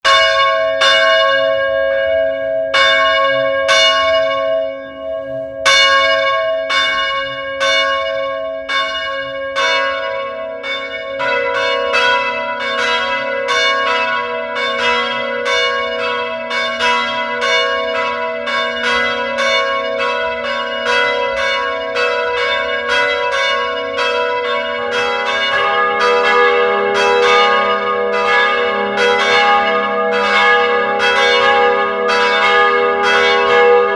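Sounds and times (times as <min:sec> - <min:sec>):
church bells ringing: 0:00.0 - 0:33.9.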